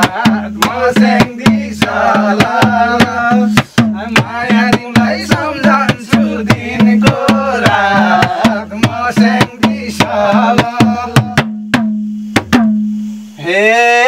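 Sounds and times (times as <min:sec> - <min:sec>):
man singing folk song: 0:00.0 - 0:11.4
hand drum rhythm: 0:00.0 - 0:13.0.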